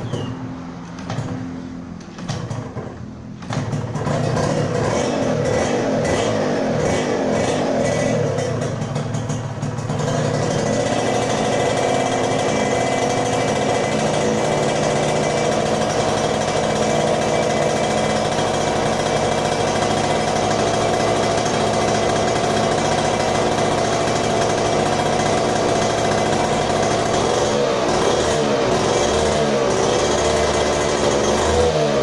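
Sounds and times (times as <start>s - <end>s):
two-stroke engine running: 0.0s - 32.0s.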